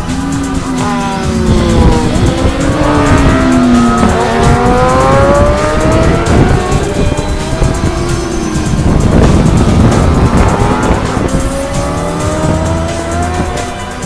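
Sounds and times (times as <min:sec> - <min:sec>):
racing engines at high revs: 0:00.0 - 0:14.0.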